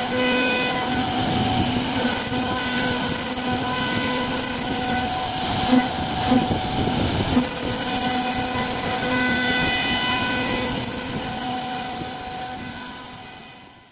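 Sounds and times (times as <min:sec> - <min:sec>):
carving machine humming: 0:00.0 - 0:13.9
wood cutting noise: 0:00.0 - 0:13.9.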